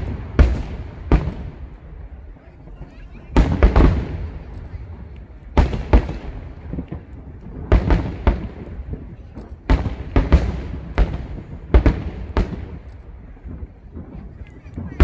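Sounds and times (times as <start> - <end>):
firework shells booming: 0.0 - 15.0.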